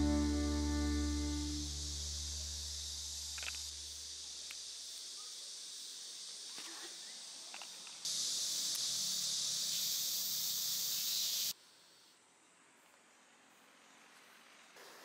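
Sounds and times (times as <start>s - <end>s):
insects hissing: 0.0s - 12.3s.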